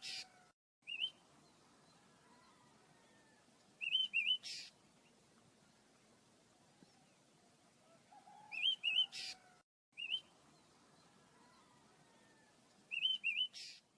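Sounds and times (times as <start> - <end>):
small birds chirping: 0.0 - 7.3, 8.3 - 13.9.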